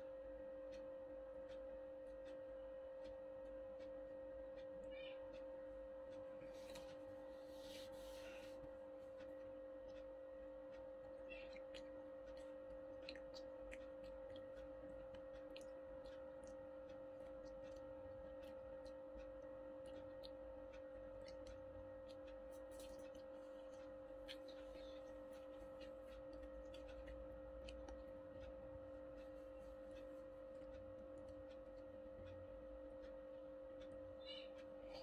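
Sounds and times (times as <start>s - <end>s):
low electrical hum: 0.0s - 35.0s
crackles of eating crispy food: 3.0s - 35.0s.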